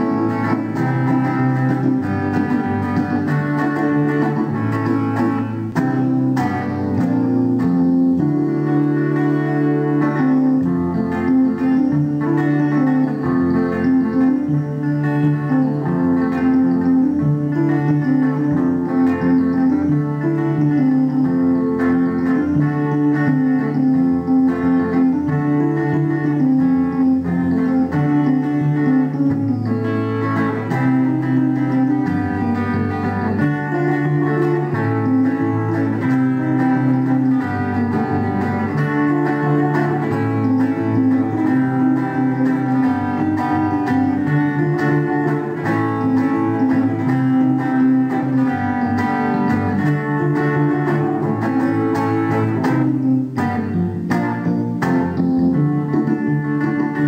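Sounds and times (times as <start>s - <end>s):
electric guitar: 0.0s - 57.0s
electronic keyboard: 0.0s - 57.0s
stepping bass line: 0.0s - 57.0s.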